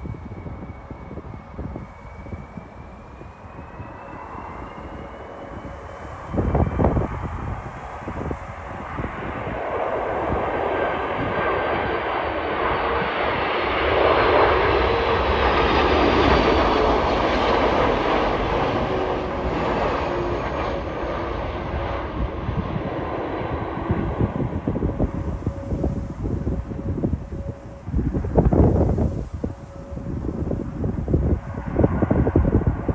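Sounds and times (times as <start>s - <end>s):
airliner engine roar: 0.0s - 32.9s
faint falling whines: 0.0s - 32.9s
wind buffeting microphone: 0.0s - 32.9s.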